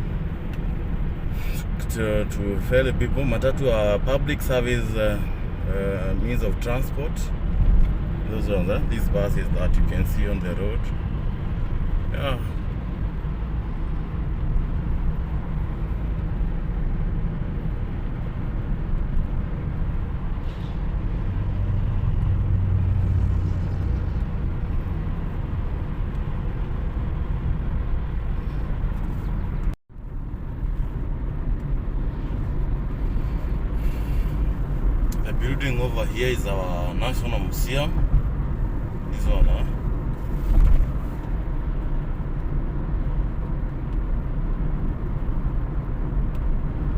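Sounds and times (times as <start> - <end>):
car engine and road noise: 0.0 - 46.9.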